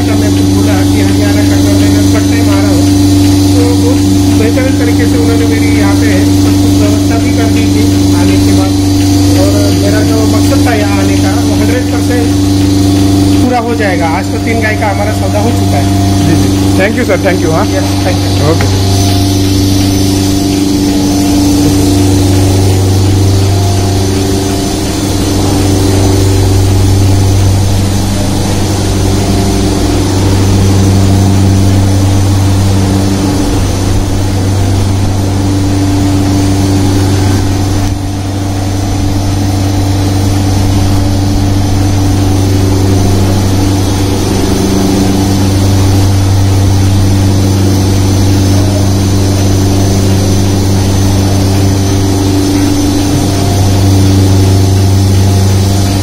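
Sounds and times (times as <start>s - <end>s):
machinery humming: 0.0s - 56.0s.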